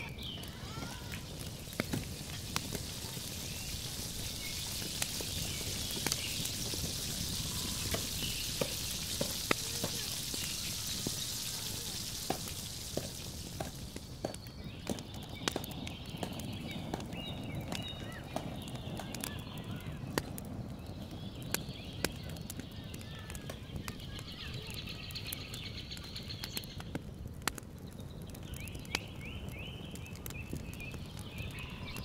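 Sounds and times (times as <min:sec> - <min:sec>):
meat sizzling in a pot: 0:00.0 - 0:27.0, 0:27.6 - 0:32.0.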